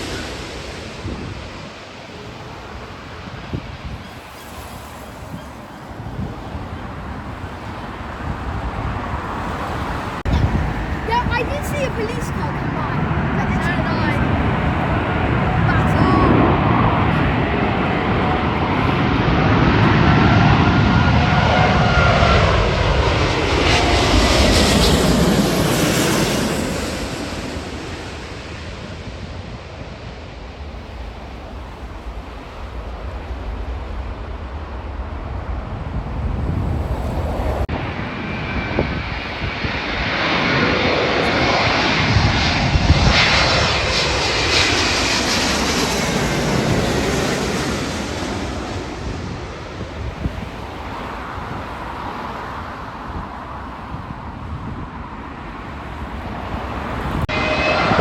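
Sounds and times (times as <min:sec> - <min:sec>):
airliner engines passing: 0:00.0 - 0:58.0.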